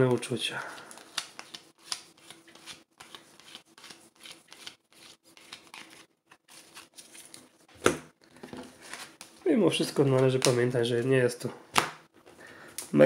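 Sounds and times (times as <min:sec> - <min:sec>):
trading cards rustling: 0:00.0 - 0:11.1.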